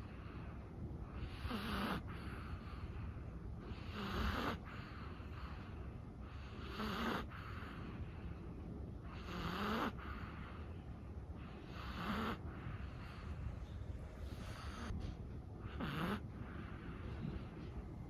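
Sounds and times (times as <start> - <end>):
dog snoring: 1.1 - 8.0, 9.0 - 10.7, 11.4 - 17.6.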